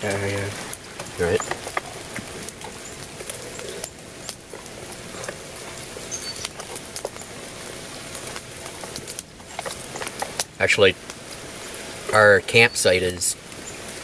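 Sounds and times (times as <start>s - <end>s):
rain pattering on a tarp: 0.0s - 14.0s.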